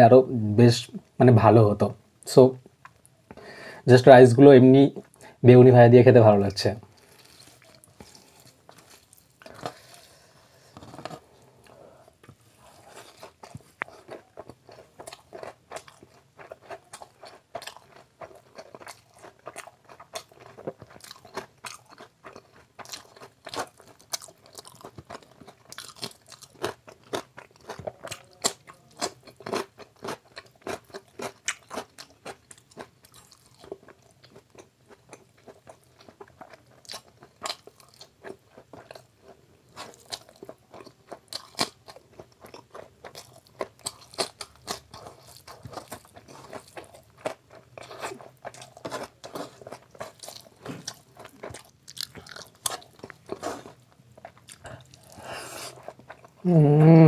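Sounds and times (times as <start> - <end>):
person chewing and crunching food: 6.8 - 56.6.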